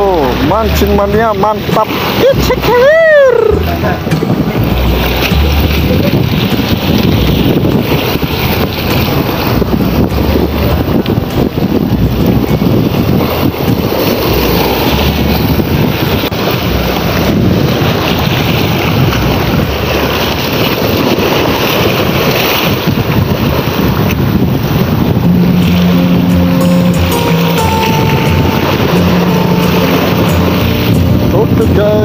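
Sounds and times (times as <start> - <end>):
surf breaking on rocks: 0.0 - 32.0
wind buffeting microphone: 0.0 - 32.0.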